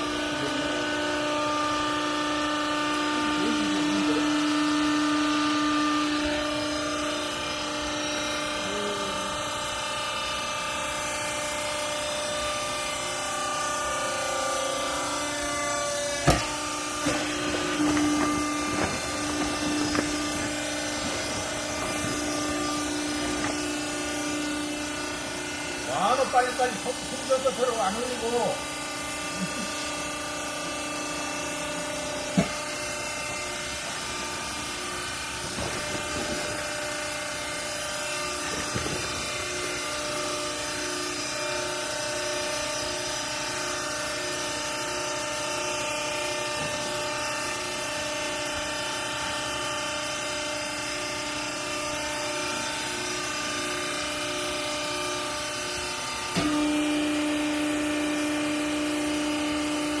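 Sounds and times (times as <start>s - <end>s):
baler machine humming: 0.0s - 60.0s.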